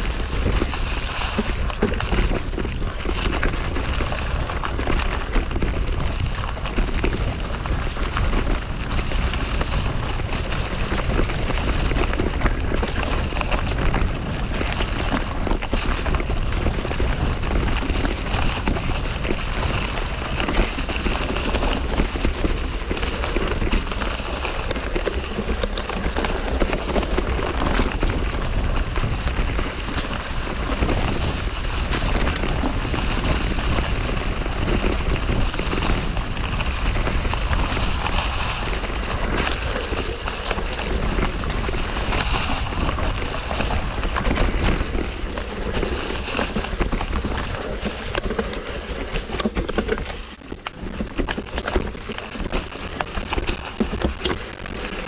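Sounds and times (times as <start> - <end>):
bike clicks and rattles: 0.0 - 55.0
tyres crackling on leaves: 0.0 - 55.0
wind on microphone: 0.0 - 55.0.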